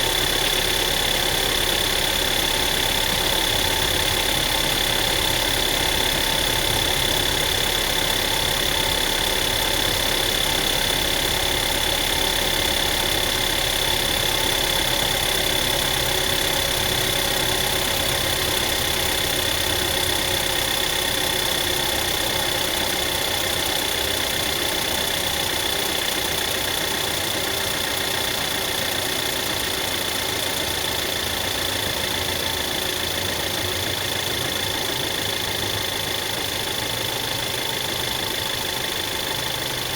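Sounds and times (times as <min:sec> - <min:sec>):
car engine idling: 0:00.0 - 0:39.9
engine rattle: 0:00.0 - 0:39.9.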